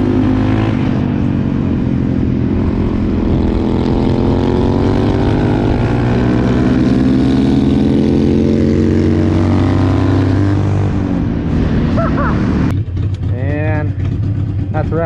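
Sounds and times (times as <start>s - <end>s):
motorcycle engine cruising: 0.0s - 15.0s
passing motorcycle engine: 0.0s - 15.0s.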